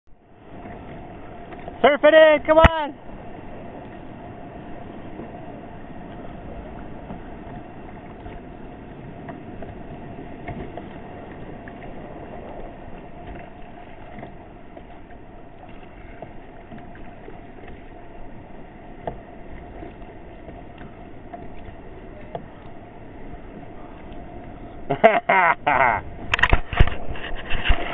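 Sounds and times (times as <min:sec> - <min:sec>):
wind and sea water washing: 0:00.1 - 0:27.9.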